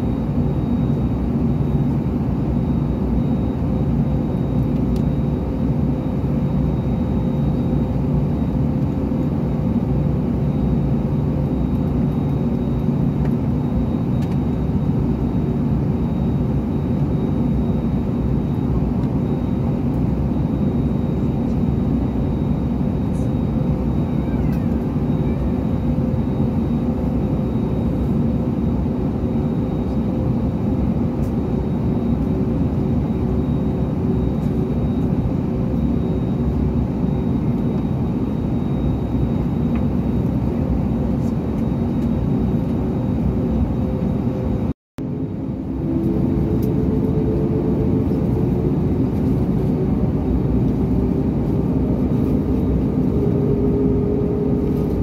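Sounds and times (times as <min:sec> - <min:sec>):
aircraft cabin rumble: 0:00.0 - 0:55.0
steady hums: 0:00.0 - 0:55.0.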